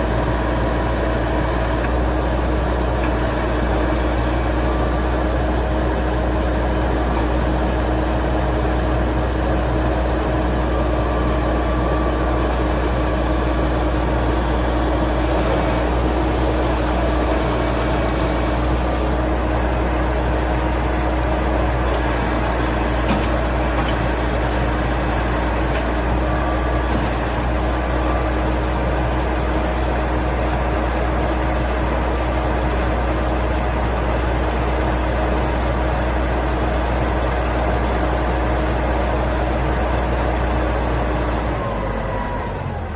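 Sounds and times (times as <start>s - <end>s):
diesel engine droning: 0.0s - 42.9s.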